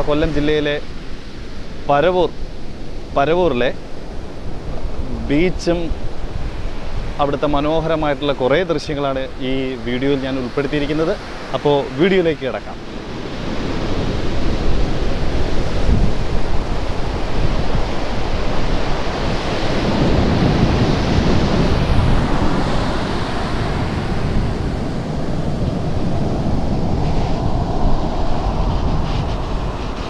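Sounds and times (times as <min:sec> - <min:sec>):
surf breaking on sandy beach: 0:00.0 - 0:30.0
wind rumbling on microphone: 0:00.0 - 0:30.0.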